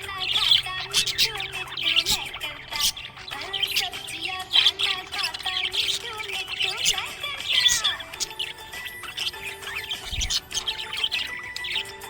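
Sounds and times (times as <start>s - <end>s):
budgerigars chirping and warbling: 0.0s - 12.0s.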